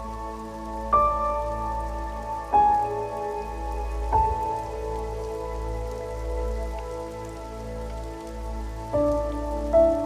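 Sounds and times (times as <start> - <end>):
slow soft ambient music: 0.0 - 10.0
steady rain: 0.0 - 10.0.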